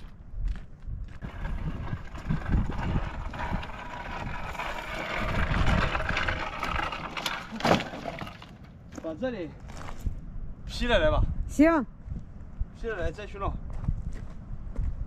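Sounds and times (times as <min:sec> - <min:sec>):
wind buffeting microphone: 0:00.0 - 0:07.3, 0:09.3 - 0:15.0.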